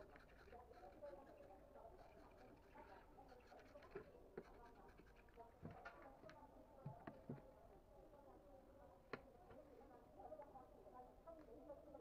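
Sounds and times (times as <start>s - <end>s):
faint background murmur: 0.0s - 12.0s.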